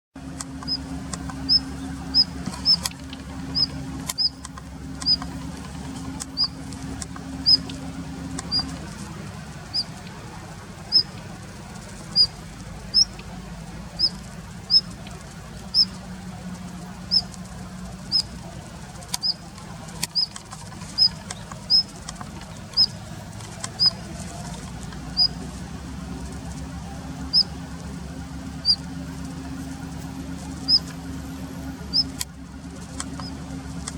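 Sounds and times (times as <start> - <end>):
steady low hum: 0.2 - 33.9
thin high bird calls: 0.5 - 16.2, 17.0 - 25.5, 27.2 - 27.6, 28.6 - 31.2, 31.9 - 32.2.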